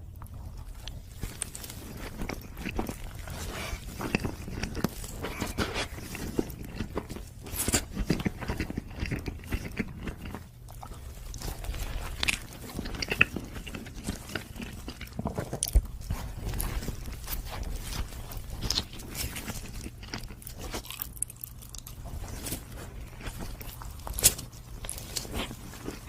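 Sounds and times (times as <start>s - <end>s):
chewing and biting donuts: 0.0s - 26.0s.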